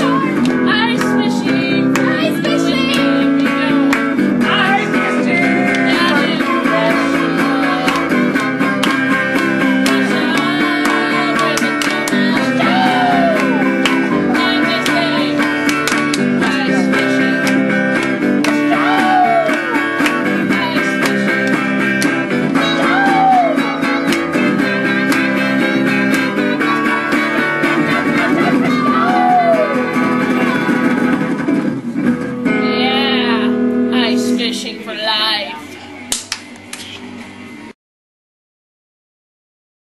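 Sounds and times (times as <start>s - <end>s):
guitar strumming chords: 0.0s - 37.7s.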